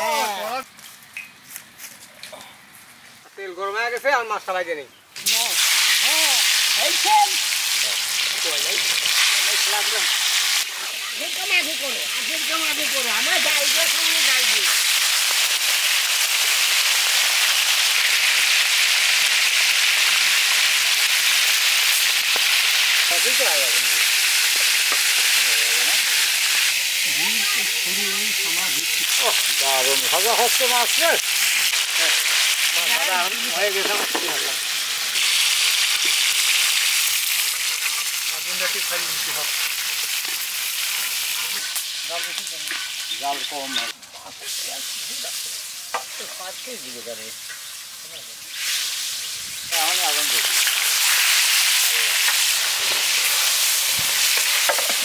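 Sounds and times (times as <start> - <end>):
fish deep-frying in oil: 5.2 - 55.0.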